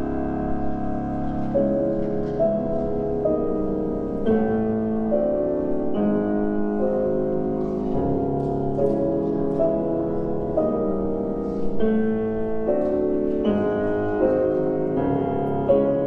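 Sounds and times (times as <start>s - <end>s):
slow piano-like music: 0.0s - 16.0s.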